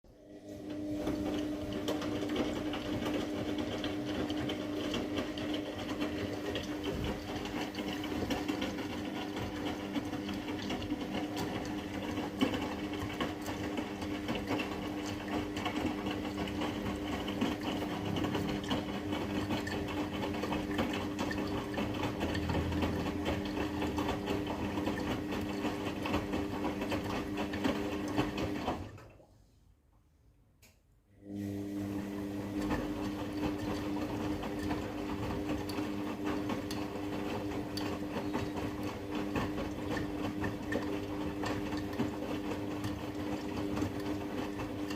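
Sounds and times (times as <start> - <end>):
washing machine motor hum: 0.1 - 29.4, 31.1 - 44.9.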